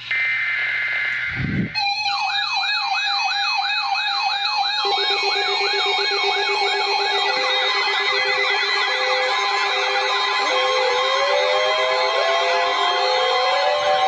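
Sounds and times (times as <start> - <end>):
siren-like alarm sweep: 0.0 - 14.0
steady alert tones: 1.2 - 14.0.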